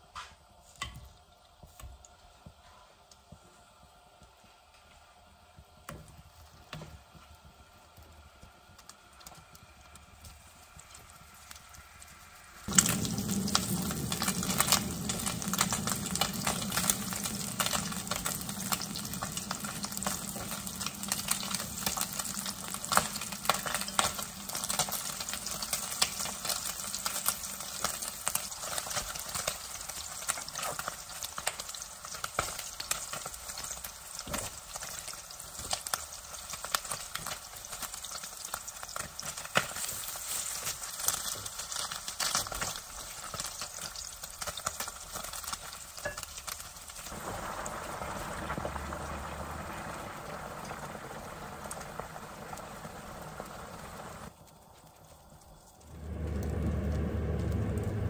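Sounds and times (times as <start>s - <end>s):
meat sizzling in oil: 5.7s - 58.0s.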